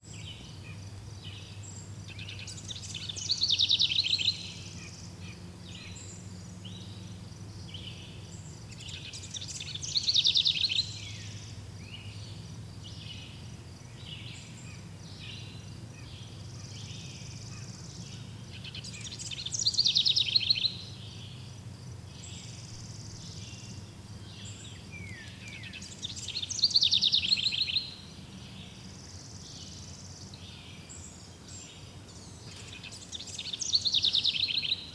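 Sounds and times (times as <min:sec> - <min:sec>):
birds chirping: 0:00.0 - 0:34.9
low steady background noise: 0:00.0 - 0:34.9
songbird singing: 0:00.0 - 0:34.9.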